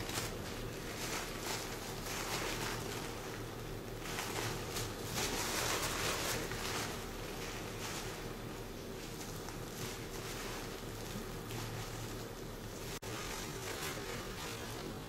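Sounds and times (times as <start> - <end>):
low steady hum: 0.0 - 15.0
paper tissue rustling: 0.0 - 15.0.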